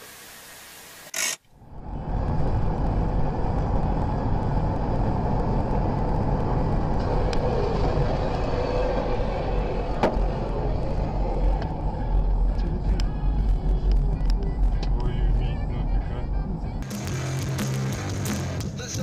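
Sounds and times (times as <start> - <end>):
car road and wind noise: 1.5 - 18.0.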